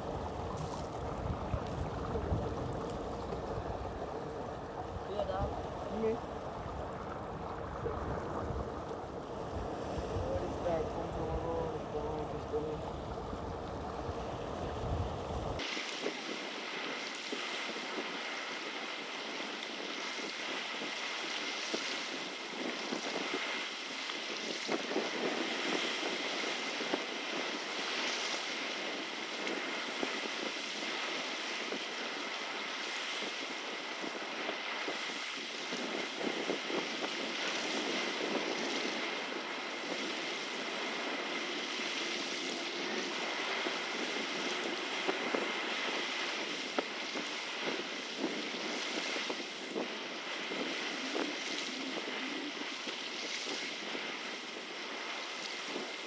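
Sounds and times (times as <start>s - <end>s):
rushing water: 0.0s - 56.0s
wind buffeting microphone: 0.0s - 56.0s.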